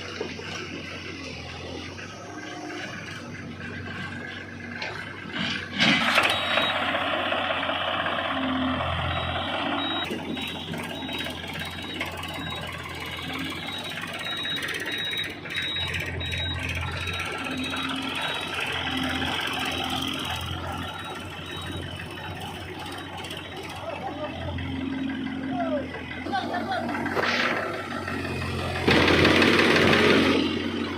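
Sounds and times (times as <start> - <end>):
heavy diesel machine running: 0.0 - 30.9
reversing alarm beeping: 5.8 - 30.9.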